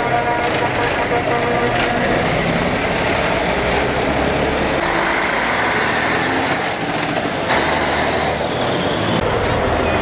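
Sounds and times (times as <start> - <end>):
trucks driving past: 0.0 - 10.0.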